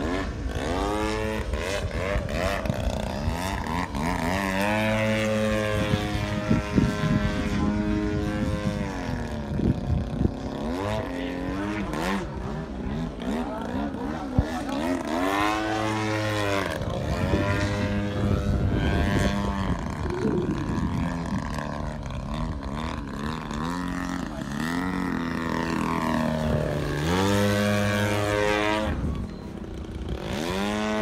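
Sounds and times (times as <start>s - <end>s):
model plane engine and propeller: 0.0s - 31.0s.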